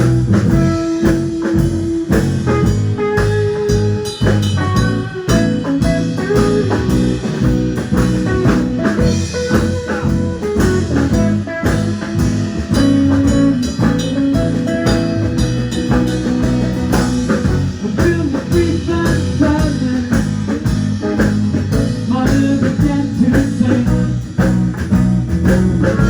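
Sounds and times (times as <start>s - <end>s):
blues guitar: 0.0s - 26.0s
drum kit: 0.0s - 26.0s.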